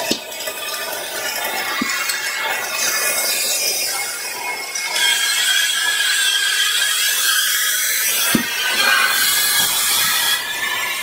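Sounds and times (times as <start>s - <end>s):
shop vac running: 0.0s - 11.0s.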